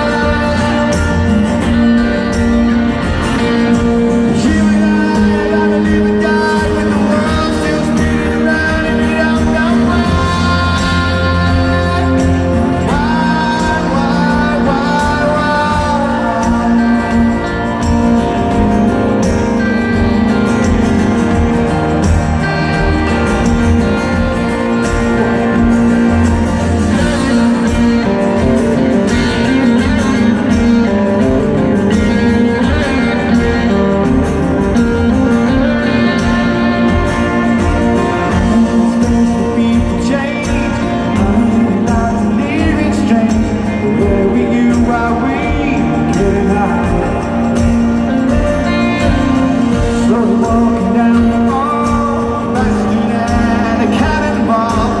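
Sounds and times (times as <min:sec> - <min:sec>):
man singing: 0:00.0 - 0:20.7, 0:21.3 - 0:55.0
rock band playing through pa: 0:00.0 - 0:55.0.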